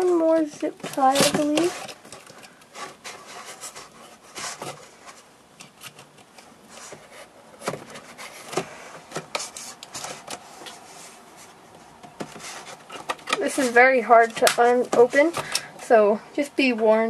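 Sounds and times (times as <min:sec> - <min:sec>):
cardboard rustling and scraping: 0:00.0 - 0:16.1.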